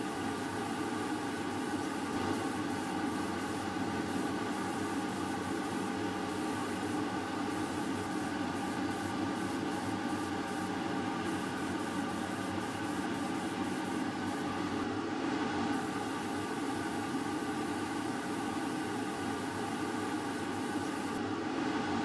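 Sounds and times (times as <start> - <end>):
spray gun hissing: 0.0 - 14.8, 15.8 - 21.2.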